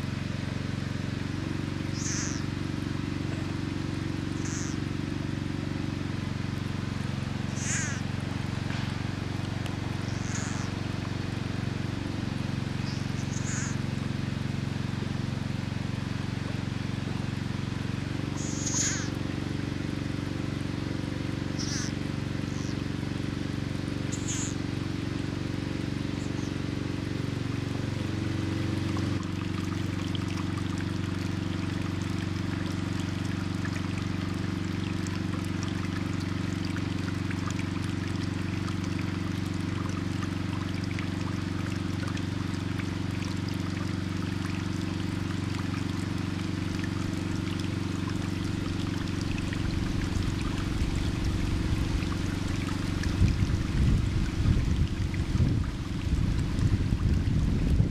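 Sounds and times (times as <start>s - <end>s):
low hum: 0.0s - 57.9s
water running and trickling: 0.0s - 57.9s.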